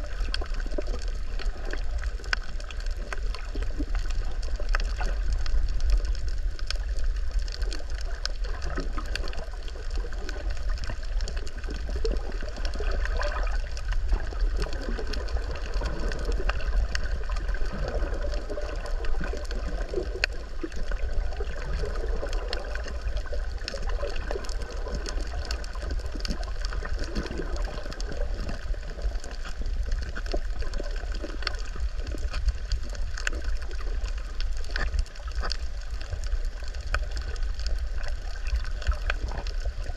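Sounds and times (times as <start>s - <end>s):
muffled underwater rumble: 0.0s - 39.9s
water gurgling: 0.0s - 39.9s
faint clicks: 0.1s - 39.9s.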